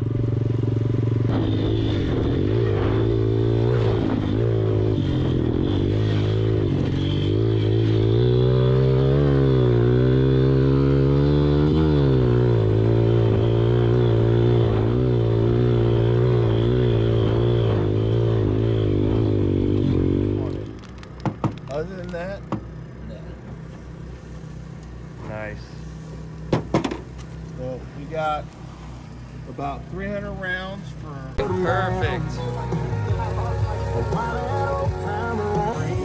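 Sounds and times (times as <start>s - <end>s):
pit bike engine running: 0.0s - 36.0s.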